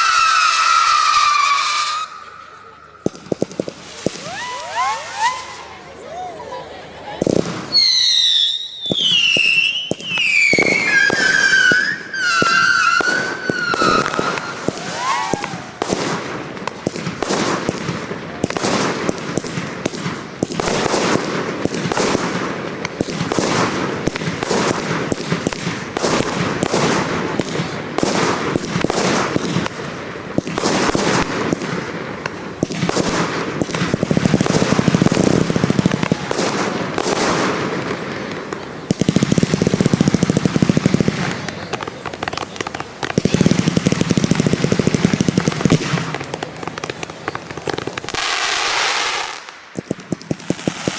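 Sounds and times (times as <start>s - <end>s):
fireworks bursts and bangs: 0.0s - 50.9s.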